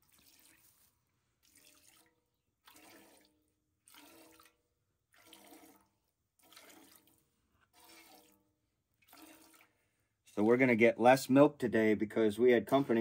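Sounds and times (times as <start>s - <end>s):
milk squirting into metal pail: 0.0s - 10.5s.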